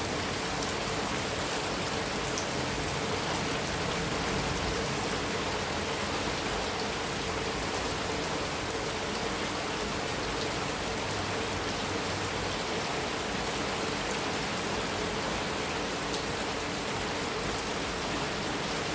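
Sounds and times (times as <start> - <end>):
heavy rain on a metal roof: 0.0 - 18.9.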